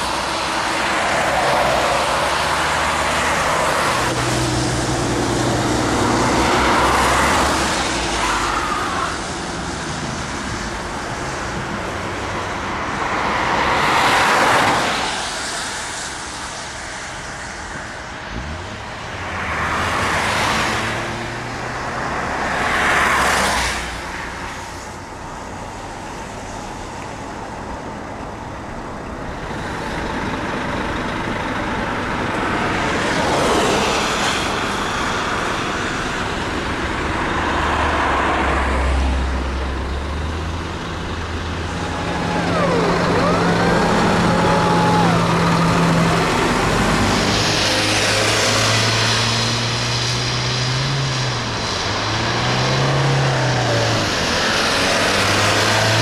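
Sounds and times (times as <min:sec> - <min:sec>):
heavy truck passing: 0:00.0 - 0:56.0
highway traffic passing: 0:00.0 - 0:56.0.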